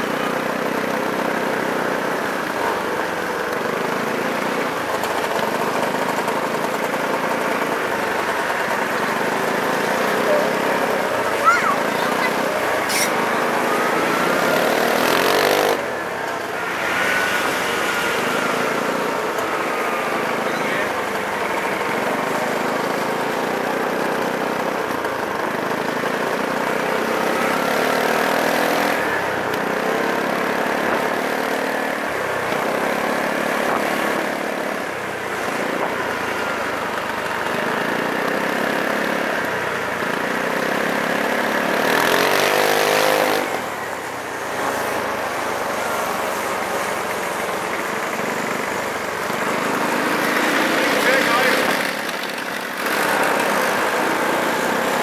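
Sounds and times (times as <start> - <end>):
motorcycle engine revving: 0.0 - 55.0
motorcycle engines passing: 0.0 - 55.0.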